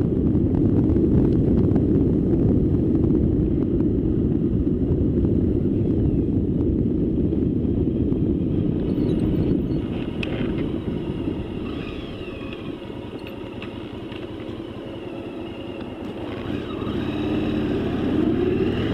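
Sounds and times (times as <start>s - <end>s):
vehicle sound with whining tones: 0.0s - 18.9s
wind rumble on microphone: 0.0s - 18.9s.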